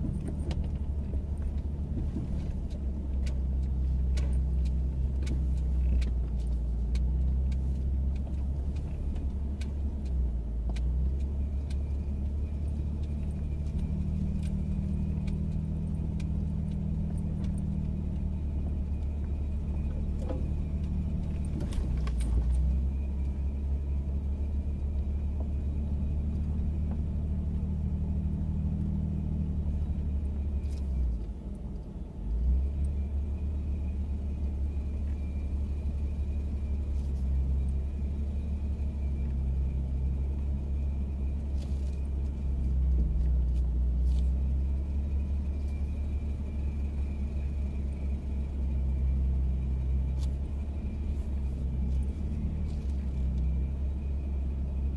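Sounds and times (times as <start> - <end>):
truck engine rumbling in cab: 0.0 - 54.9.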